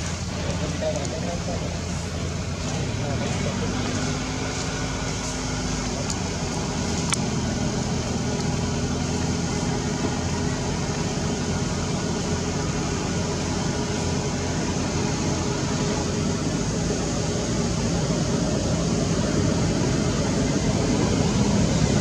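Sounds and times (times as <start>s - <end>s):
outdoor rumble and hiss: 0.0s - 22.0s.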